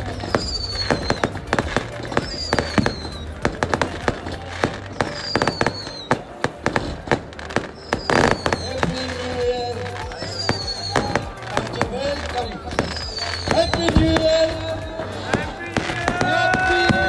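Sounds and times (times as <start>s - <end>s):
fireworks bangs and crackling: 0.0s - 17.0s
fireworks whistles falling in pitch: 0.0s - 17.0s.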